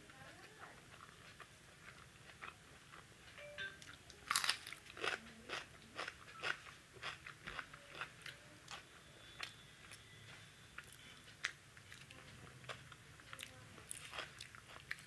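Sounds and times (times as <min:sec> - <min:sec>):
person chewing food: 0:00.9 - 0:03.1, 0:03.8 - 0:15.0.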